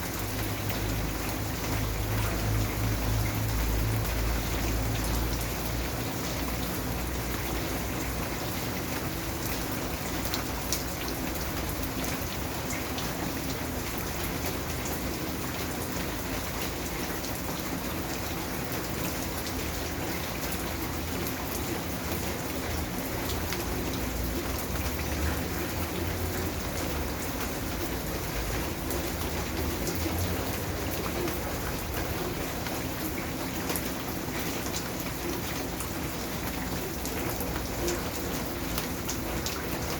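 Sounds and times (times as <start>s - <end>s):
rain drops pattering on hard surface: 0.0s - 39.9s.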